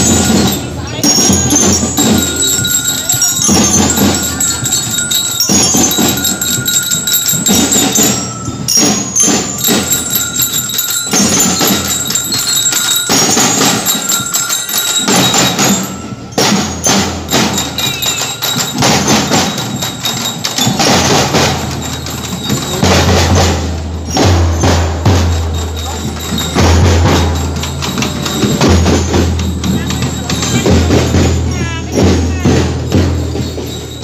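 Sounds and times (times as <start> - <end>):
bell-lyres ringing a melody: 0.0 - 34.0
snare and bass drum beats: 0.0 - 34.0.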